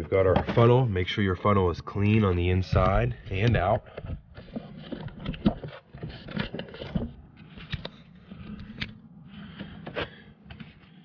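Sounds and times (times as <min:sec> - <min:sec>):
steady low hum: 0:00.0 - 0:11.0
plastic jug and funnel handling: 0:02.0 - 0:10.8.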